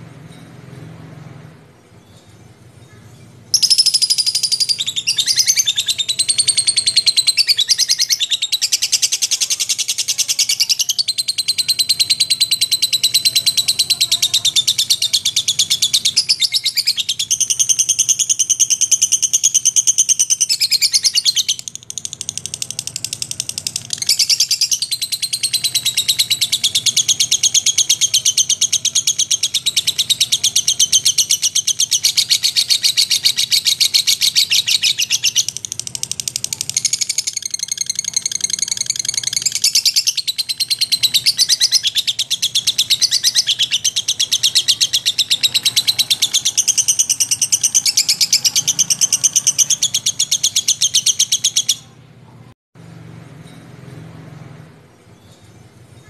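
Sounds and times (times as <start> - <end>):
lovebird chattering trill: 2.9 - 52.0.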